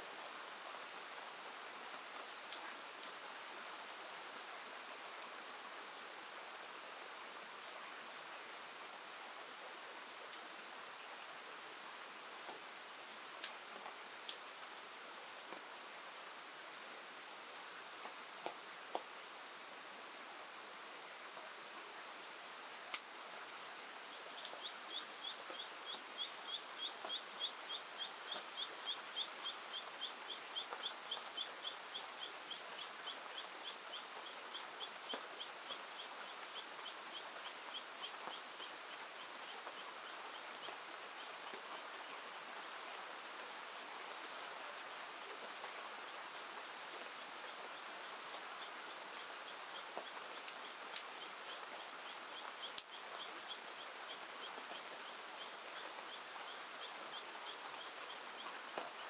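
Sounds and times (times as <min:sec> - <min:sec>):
river: 0:00.0 - 0:59.0.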